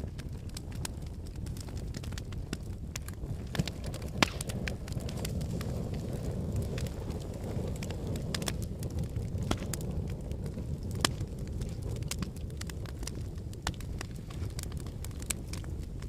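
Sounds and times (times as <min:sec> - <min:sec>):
flames low rumble: 0:00.0 - 0:16.0
logs crackling and popping: 0:00.0 - 0:16.0.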